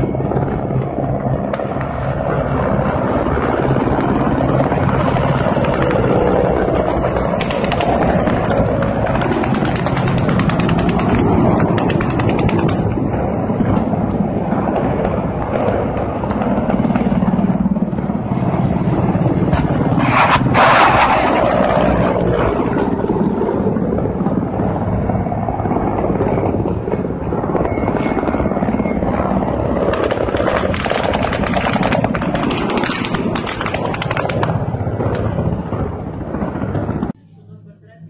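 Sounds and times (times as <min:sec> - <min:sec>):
helicopter rotors droning: 0:00.0 - 0:37.8.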